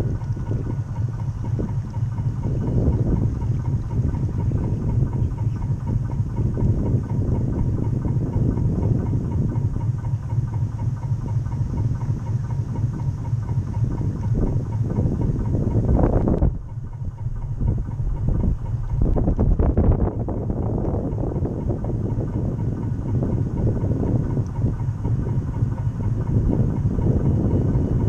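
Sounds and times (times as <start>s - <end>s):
model boat motor humming: 0.0s - 28.0s
water washing along hull: 0.0s - 28.0s.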